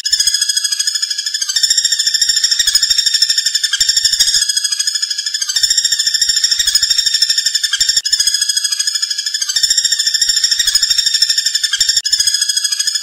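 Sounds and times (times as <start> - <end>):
woodpecker rattling call: 0.0 - 13.0.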